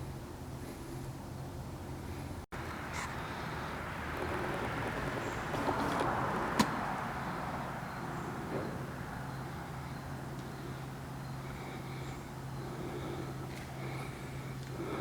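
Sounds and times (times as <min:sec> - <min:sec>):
steady low hum: 0:00.0 - 0:15.0
vehicle passing by: 0:02.6 - 0:15.0.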